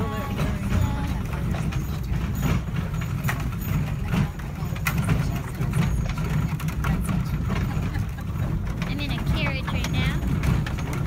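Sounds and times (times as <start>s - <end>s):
coach clattering and knocking: 0.0s - 11.0s
wooden wheels rumbling on gravel: 0.0s - 11.0s.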